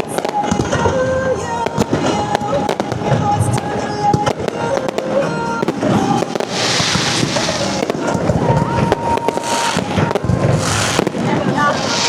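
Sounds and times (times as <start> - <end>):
fireworks bangs and pops: 0.0 - 12.0
fireworks hissing crackle: 0.0 - 12.0
music: 0.0 - 12.0.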